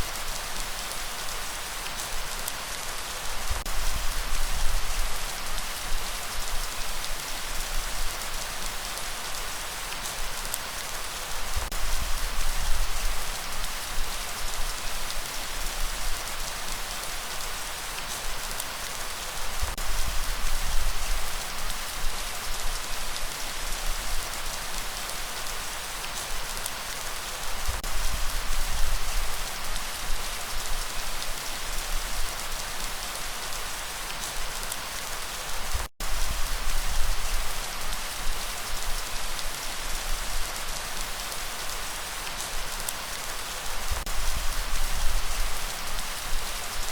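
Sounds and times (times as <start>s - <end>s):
heavy rain hiss: 0.0s - 46.9s.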